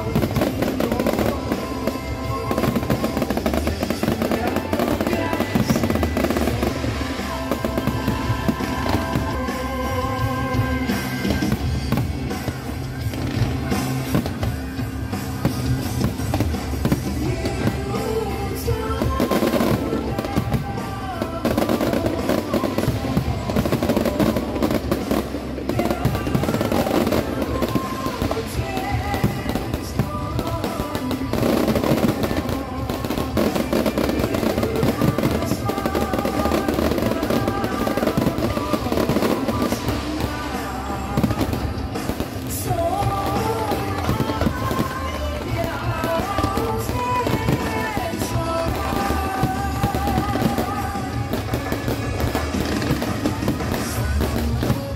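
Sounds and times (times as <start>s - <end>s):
fireworks bangs and crackling: 0.0s - 54.9s
loud music over outdoor speakers: 0.0s - 54.9s.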